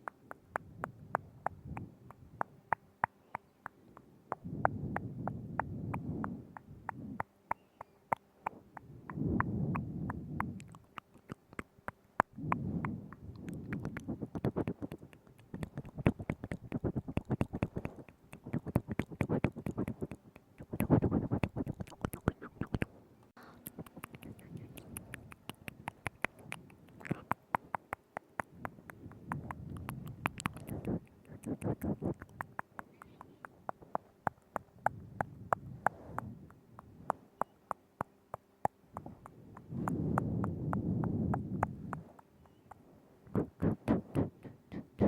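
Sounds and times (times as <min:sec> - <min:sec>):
breathy mouth sounds: 0:00.0 - 0:45.0
tongue clicks and lip smacks: 0:00.0 - 0:45.0.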